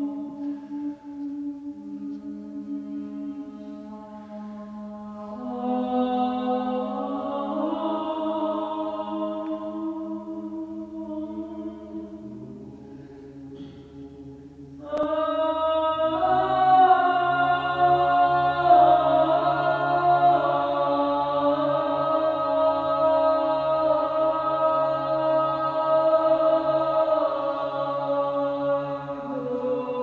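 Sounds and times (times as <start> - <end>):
slow chant-like music: 0.0 - 30.0.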